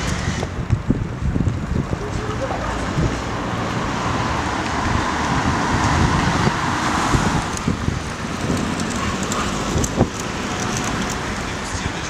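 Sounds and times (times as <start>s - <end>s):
road traffic: 0.0s - 12.0s
wind rumbling on microphone: 0.0s - 12.0s.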